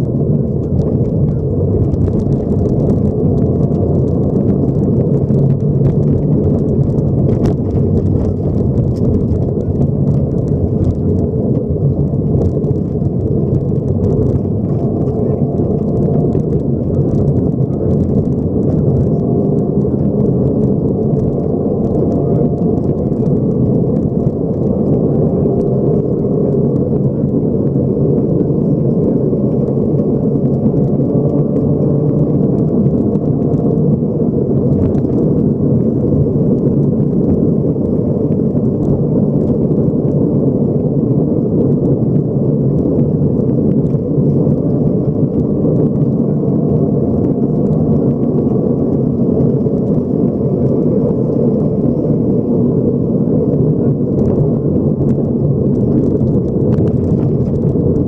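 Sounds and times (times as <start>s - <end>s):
rally car engine rumble: 0.0s - 58.0s.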